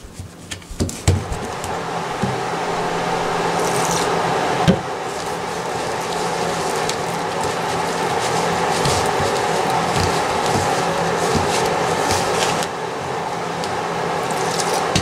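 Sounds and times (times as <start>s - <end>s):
wooden spoon stirring dough: 0.0s - 4.2s, 5.0s - 15.0s
steady background hum: 0.0s - 15.0s.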